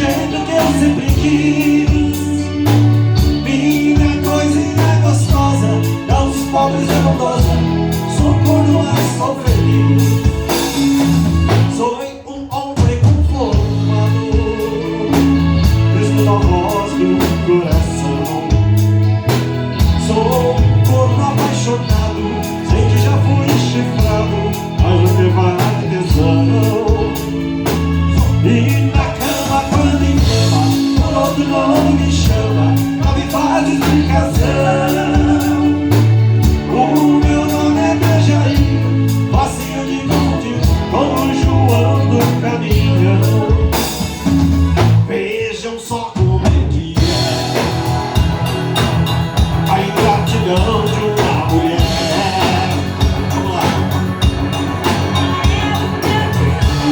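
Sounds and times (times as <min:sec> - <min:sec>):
pulsing bass line: 0:00.0 - 0:11.8, 0:13.4 - 0:45.1, 0:46.9 - 0:56.9
melody instrument: 0:00.0 - 0:12.0, 0:13.5 - 0:45.1, 0:47.0 - 0:56.9
drum kit: 0:00.0 - 0:56.9.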